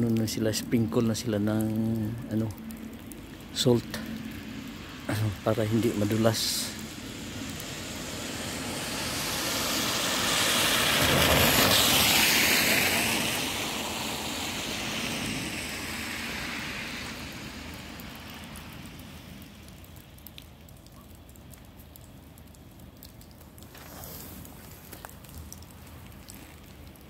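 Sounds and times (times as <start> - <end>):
car passing on wet road: 0.0 - 20.7, 22.4 - 27.0.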